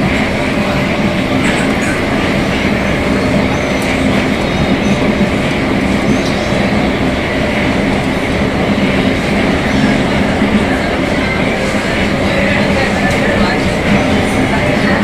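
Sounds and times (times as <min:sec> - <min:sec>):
traction motors humming: 0:00.0 - 0:15.0
wheels rumbling on rail: 0:00.0 - 0:15.0.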